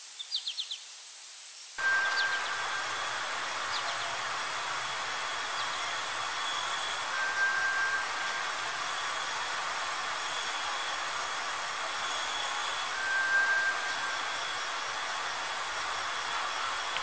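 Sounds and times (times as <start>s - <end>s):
steady high hiss: 0.0s - 17.0s
long whistled note: 1.8s - 17.0s.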